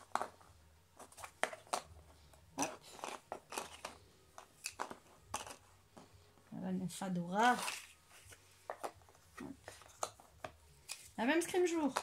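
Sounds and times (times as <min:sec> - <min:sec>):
cardboard tiles clicking and tapping: 0:00.0 - 0:06.1, 0:07.5 - 0:12.0.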